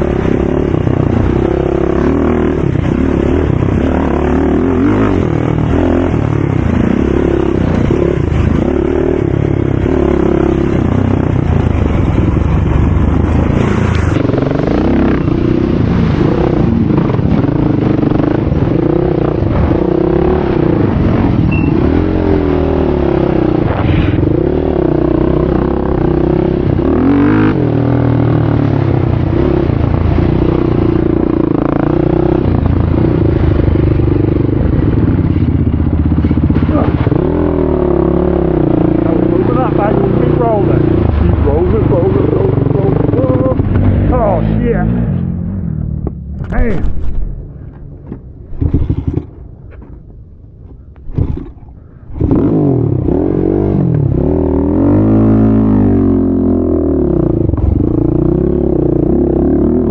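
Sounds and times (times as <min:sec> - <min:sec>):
quad bike engines revving: 0:00.0 - 0:50.0, 0:50.7 - 0:59.9.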